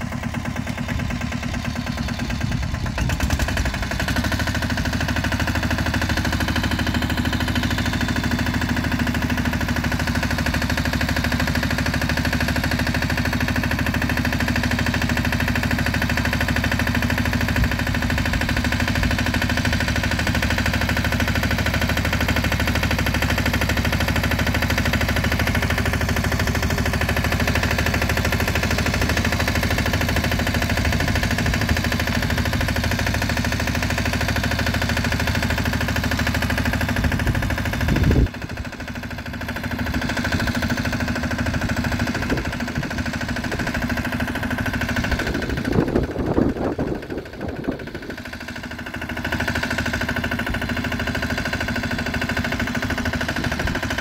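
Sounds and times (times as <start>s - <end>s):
diesel engine revving up: 0.0s - 54.0s.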